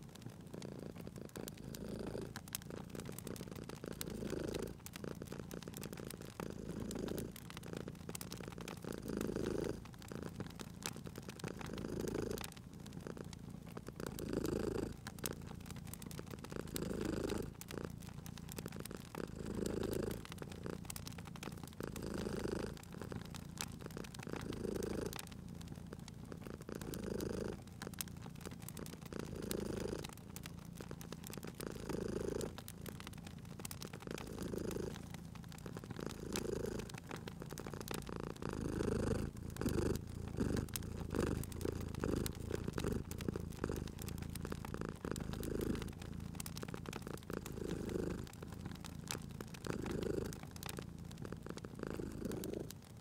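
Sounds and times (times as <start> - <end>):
cat purring: 0.0 - 53.0
wood fire crackling: 0.0 - 53.0.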